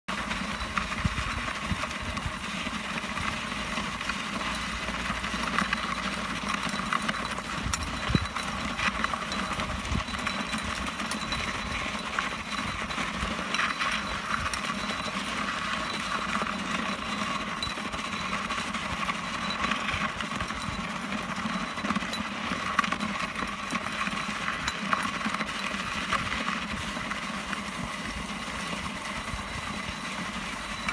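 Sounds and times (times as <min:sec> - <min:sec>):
hooves crunching in snow: 0:00.1 - 0:30.9.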